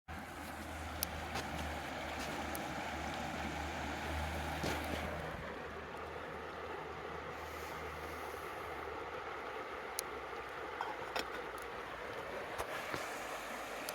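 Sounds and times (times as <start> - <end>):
river water rushing: 0.1 - 13.9.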